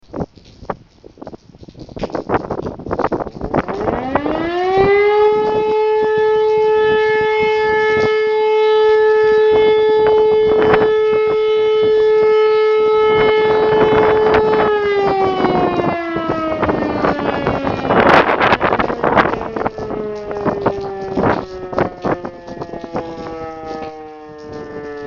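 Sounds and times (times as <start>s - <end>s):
wind buffeting microphone: 0.0s - 25.0s
electric motor siren: 3.5s - 25.0s.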